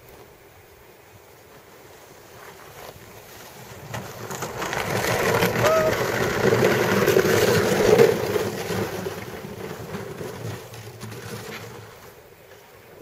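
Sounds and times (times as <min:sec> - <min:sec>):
sled scraping over icy snow: 0:01.2 - 0:13.0.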